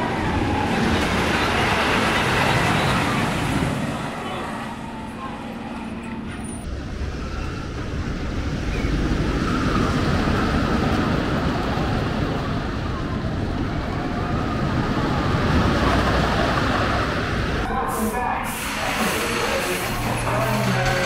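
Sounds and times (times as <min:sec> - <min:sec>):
roller coaster on wooden track: 0:00.0 - 0:17.7.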